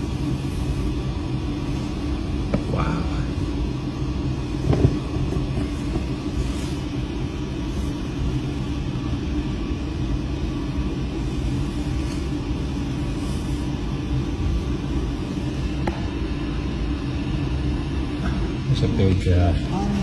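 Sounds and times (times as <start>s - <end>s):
low machinery rumble and hum: 0.0s - 20.0s.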